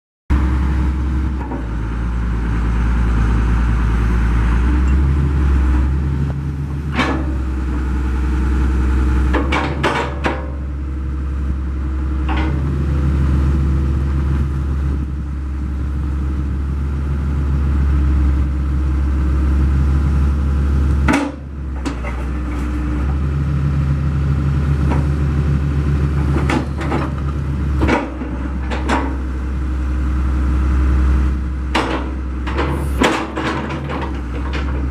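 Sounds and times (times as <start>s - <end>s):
diesel engine idling: 0.3s - 34.9s.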